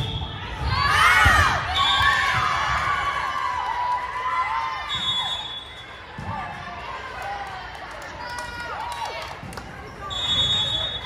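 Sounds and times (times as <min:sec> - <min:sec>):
crowd cheering and shouting: 0:00.0 - 0:11.0.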